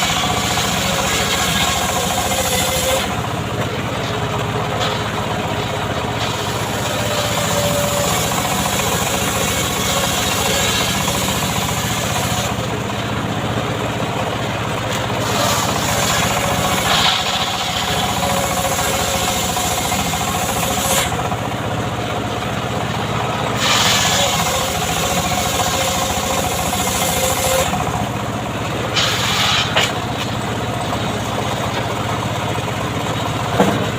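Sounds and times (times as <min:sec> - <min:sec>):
chainsaw engine running: 0:00.0 - 0:33.9.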